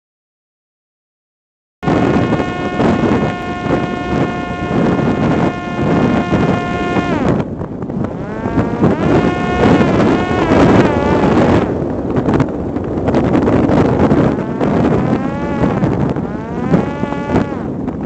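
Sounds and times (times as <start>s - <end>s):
drone motor and propeller whining: 1.8s - 18.0s
wind rushing across microphone: 1.8s - 18.0s.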